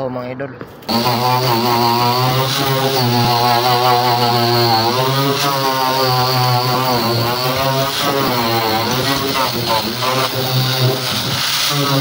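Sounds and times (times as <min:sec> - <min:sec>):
angle grinder sanding metal: 0:00.9 - 0:12.0.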